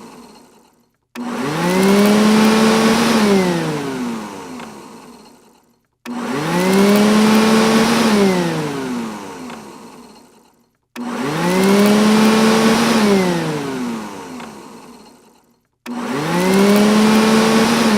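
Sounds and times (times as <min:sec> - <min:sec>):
robot vacuum motor whining: 0:00.0 - 0:17.9.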